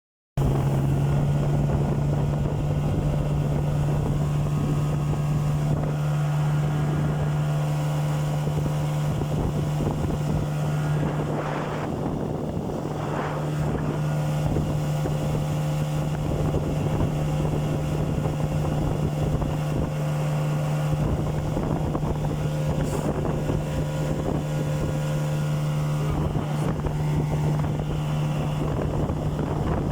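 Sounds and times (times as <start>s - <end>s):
outboard motor running: 0.4s - 29.9s
wind on microphone: 0.4s - 29.9s.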